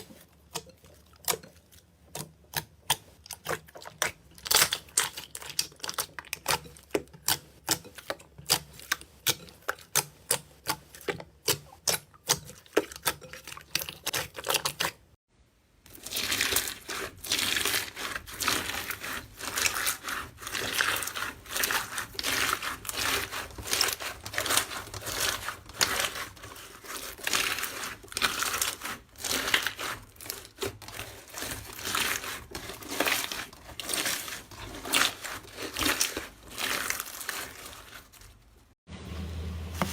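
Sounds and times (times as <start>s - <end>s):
slime crackling and crinkling: 0.0s - 15.1s, 15.9s - 38.8s.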